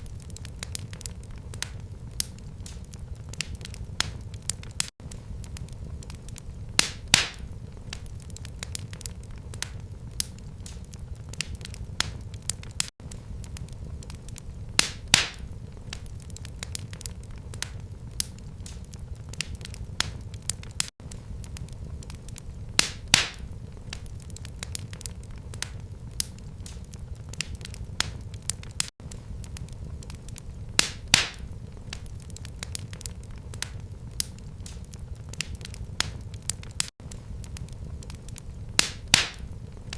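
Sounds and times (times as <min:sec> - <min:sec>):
low steady rumble: 0:00.0 - 0:12.4, 0:13.0 - 0:20.3, 0:21.0 - 0:26.6, 0:29.0 - 0:35.2, 0:37.0 - 0:39.9
wood fire crackling and popping: 0:00.0 - 0:39.9.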